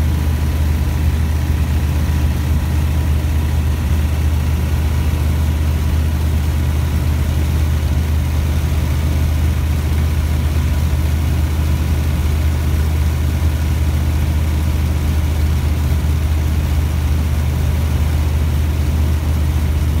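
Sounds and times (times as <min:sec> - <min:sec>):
ultralight aircraft engine droning: 0:00.0 - 0:20.0.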